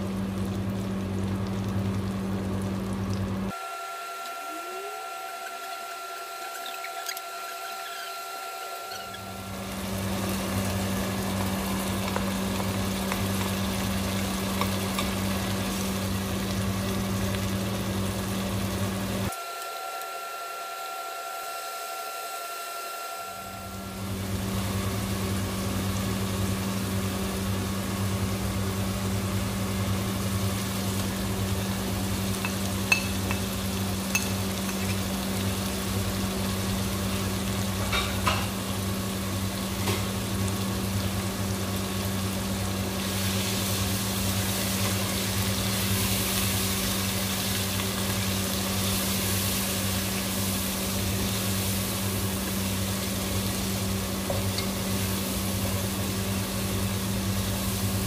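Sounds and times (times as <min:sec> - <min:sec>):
food sizzling in a pot: 0:00.0 - 0:58.0.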